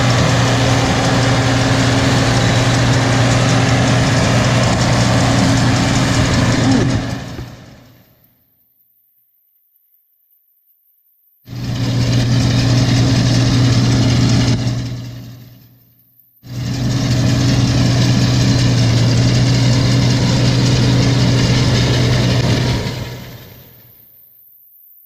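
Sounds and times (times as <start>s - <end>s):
engine humming: 0.0s - 8.8s, 11.5s - 24.3s.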